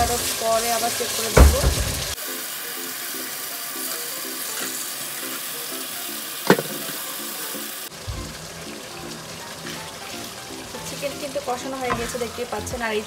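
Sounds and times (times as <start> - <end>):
food sizzling in a wok: 0.0 - 13.0
quiet background music with beat: 2.2 - 13.0.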